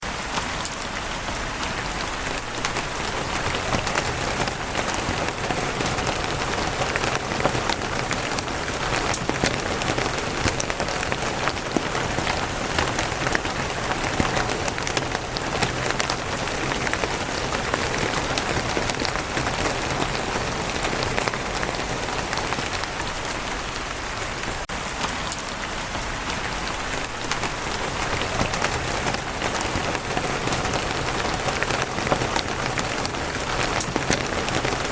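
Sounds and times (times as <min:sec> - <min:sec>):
rain on a wooden roof: 0:00.0 - 0:34.9.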